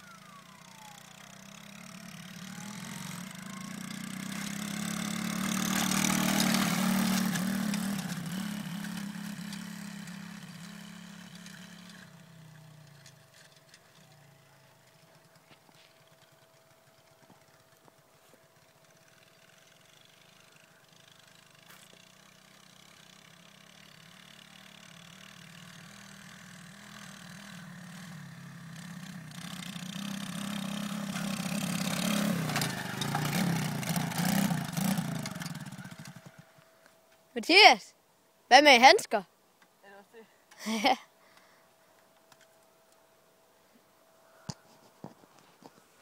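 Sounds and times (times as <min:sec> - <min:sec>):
dirt bike engine running: 0:00.0 - 0:37.8, 0:40.6 - 0:41.0.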